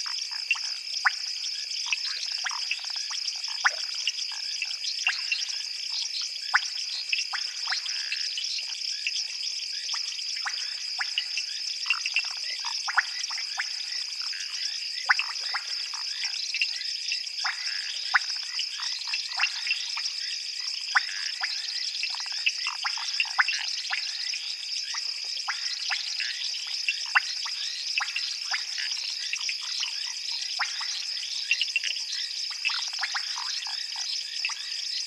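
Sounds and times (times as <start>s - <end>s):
frogs clicking and piping: 0.0s - 35.0s.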